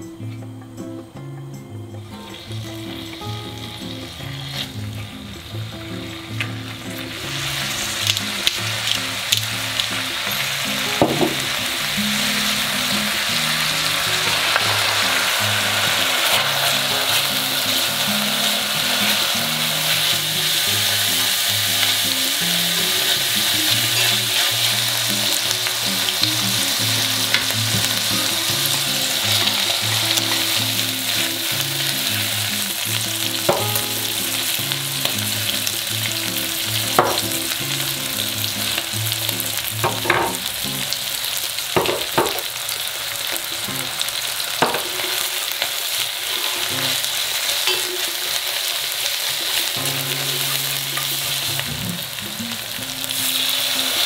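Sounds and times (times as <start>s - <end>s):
beef sizzling in a pot: 2.1s - 54.0s.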